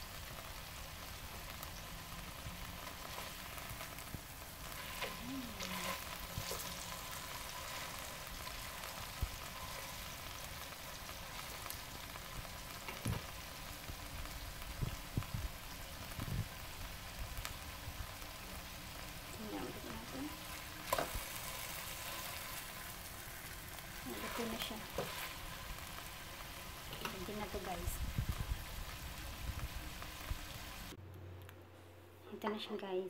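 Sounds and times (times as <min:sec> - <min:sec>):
chicken sizzling in a frying pan: 0:00.0 - 0:31.0.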